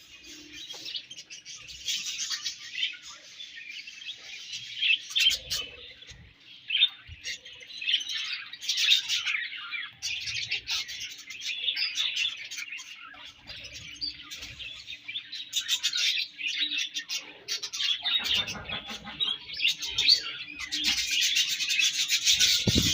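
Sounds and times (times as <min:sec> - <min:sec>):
budgerigars chirping and warbling: 0:00.0 - 0:22.9.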